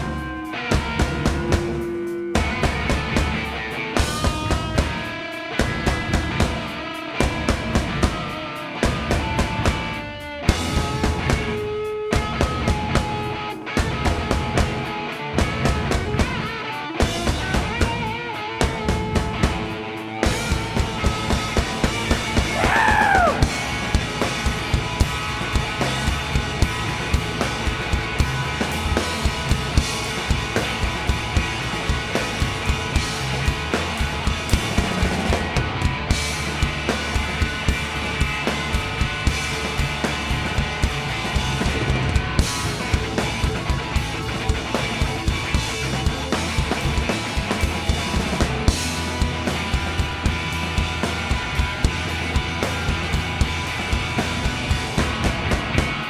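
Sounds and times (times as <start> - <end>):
drum kit beat: 0.0 - 56.0
rock band playing: 0.0 - 56.0.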